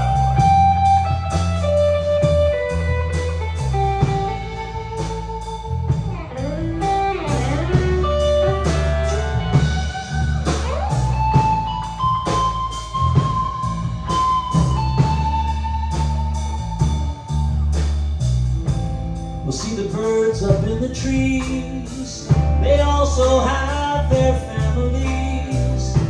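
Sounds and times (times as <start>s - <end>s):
bass guitar: 0.0s - 26.0s
drum kit beat: 0.0s - 26.0s
lead guitar with pitch bends: 0.0s - 26.0s.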